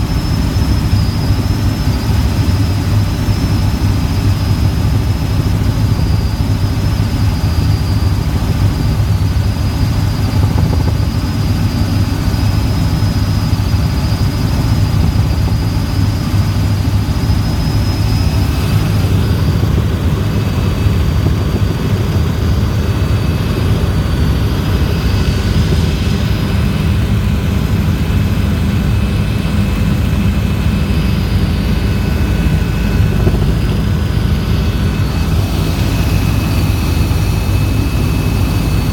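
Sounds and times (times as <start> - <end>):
helicopter engine and rotor: 0.0 - 38.9
thin high whine: 0.0 - 38.9.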